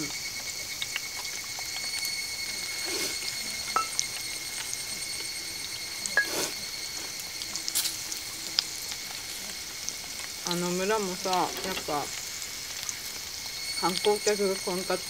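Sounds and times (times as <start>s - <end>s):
high-pitched insect drone: 0.0s - 15.0s
vegetables sizzling in a pan: 0.0s - 15.0s.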